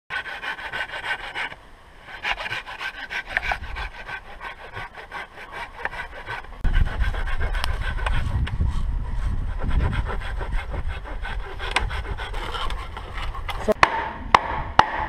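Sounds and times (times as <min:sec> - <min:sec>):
hand saw cutting bamboo: 0:00.1 - 0:08.5, 0:09.4 - 0:14.0.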